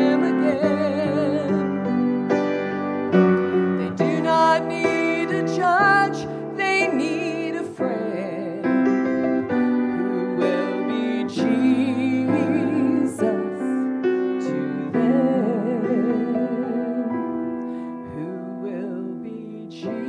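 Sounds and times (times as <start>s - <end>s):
woman singing with vibrato: 0.0s - 2.3s, 3.6s - 20.0s
grand piano: 0.0s - 20.0s.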